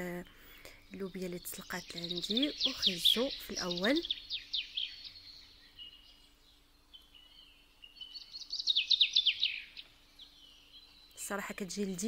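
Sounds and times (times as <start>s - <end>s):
faint steady hum: 0.0s - 12.0s
songbird singing high chirps: 0.0s - 12.0s.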